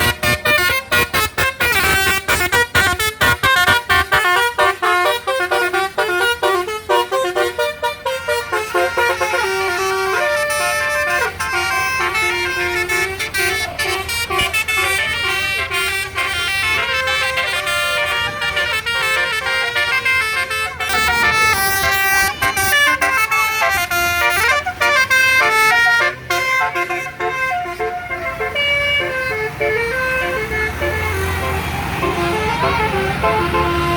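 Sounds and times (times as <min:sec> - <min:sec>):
multi-tone bus horn melody: 0:00.0 - 0:33.9.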